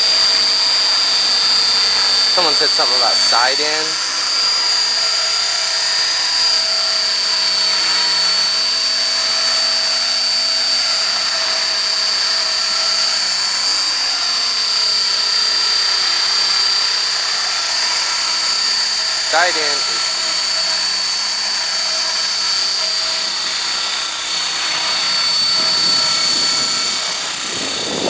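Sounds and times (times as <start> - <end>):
model helicopter hovering: 0.0 - 28.0.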